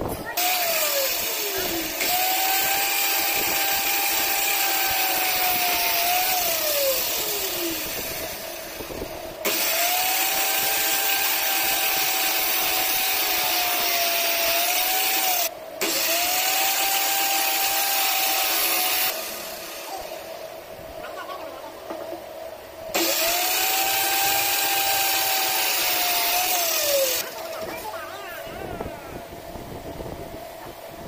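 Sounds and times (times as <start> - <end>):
circular saw whining: 0.0 - 20.7, 22.9 - 30.2.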